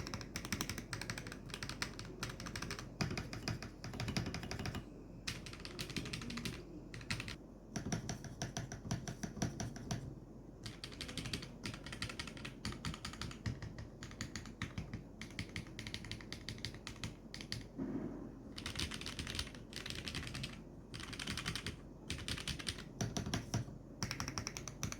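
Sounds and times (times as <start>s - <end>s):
mechanical keyboard typing: 0.0s - 17.8s, 18.5s - 24.9s.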